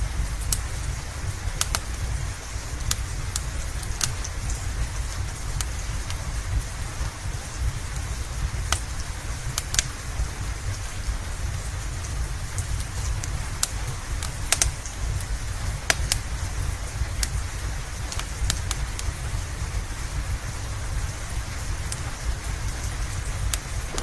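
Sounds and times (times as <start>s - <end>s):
low rumble: 0.0s - 24.0s
steady rain: 0.0s - 24.0s
wood fire crackling and popping: 0.0s - 24.0s.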